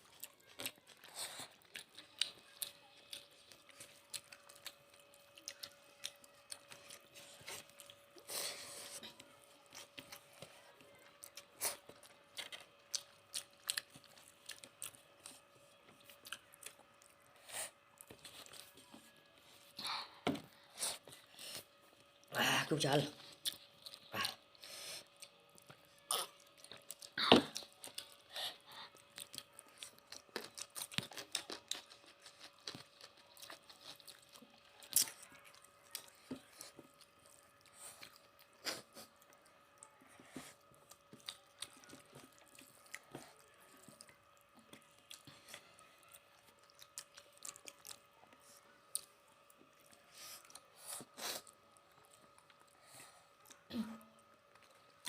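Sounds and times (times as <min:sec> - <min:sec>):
faint steady hum: 0:00.0 - 0:55.0
people chewing and crunching: 0:00.0 - 0:55.0.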